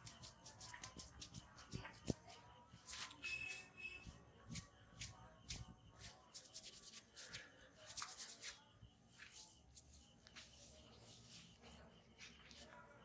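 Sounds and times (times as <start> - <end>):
hands rubbing skin and hair: 0.0 - 3.6, 4.5 - 12.8.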